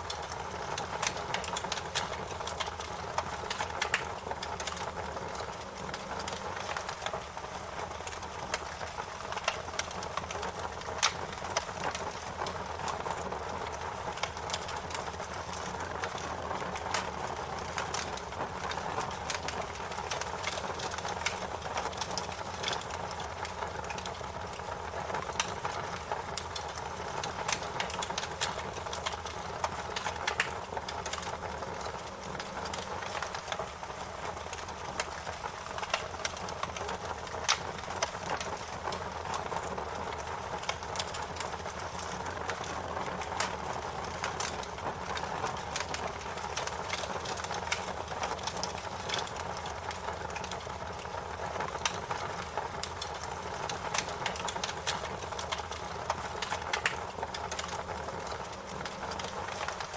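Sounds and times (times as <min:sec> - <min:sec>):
wood fire hissing and crackling: 0:00.0 - 0:59.9.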